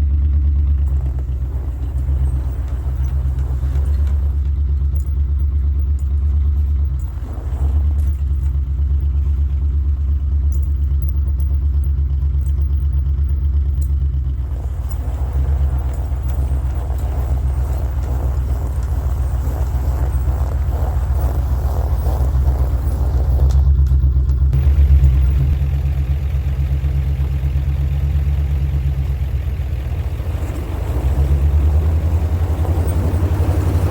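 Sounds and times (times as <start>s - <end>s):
truck engine rumbling: 0.0s - 33.9s.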